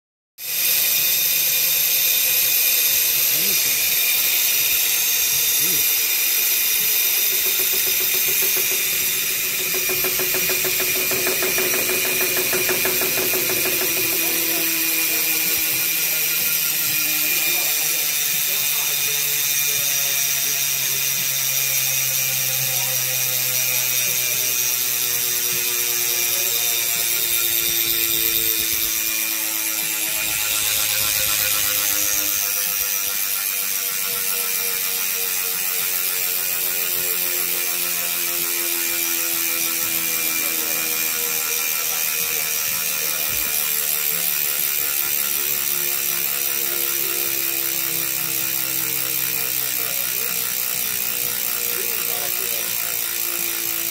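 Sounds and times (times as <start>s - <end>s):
bicycle hub ratcheting: 0.4s - 53.9s.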